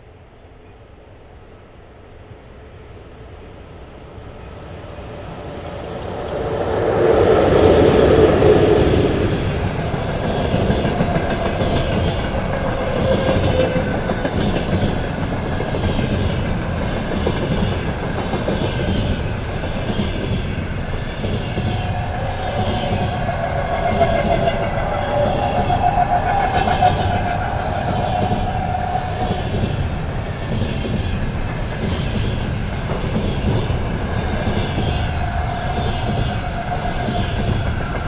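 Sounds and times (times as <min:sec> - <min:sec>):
freight train passing: 0:00.0 - 0:38.0.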